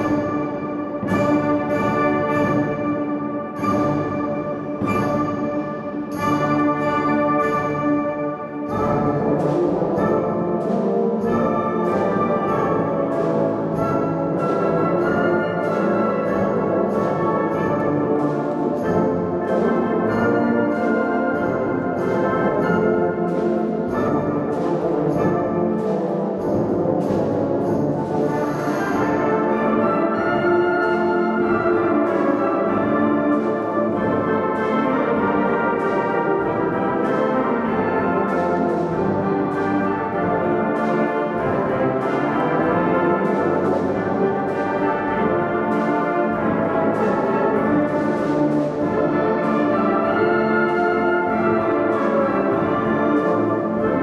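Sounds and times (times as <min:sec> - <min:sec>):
wind band playing: 0:00.0 - 0:54.0.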